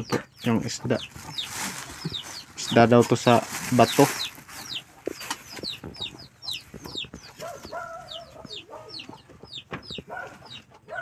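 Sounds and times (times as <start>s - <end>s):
chicken clucking: 0.0s - 11.0s
chicks peeping: 0.0s - 11.0s.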